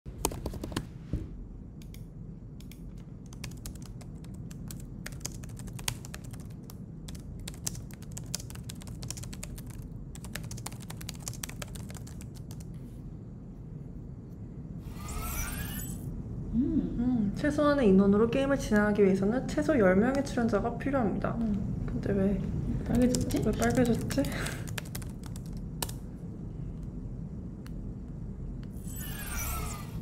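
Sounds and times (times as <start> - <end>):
low steady hum: 0.1 - 30.0.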